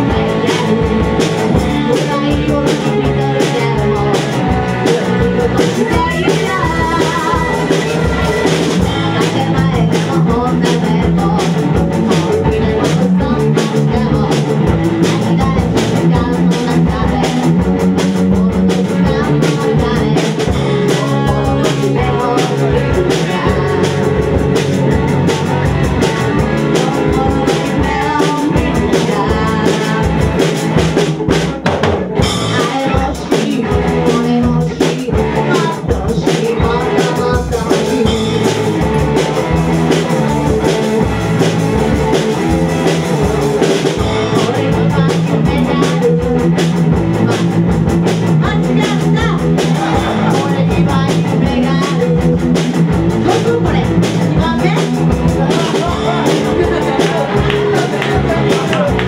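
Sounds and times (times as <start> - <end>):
person singing amplified: 0.0 - 30.8, 32.2 - 59.0
bass guitar: 0.0 - 59.0
drum kit beat: 0.0 - 59.0
electric guitar: 0.0 - 59.0.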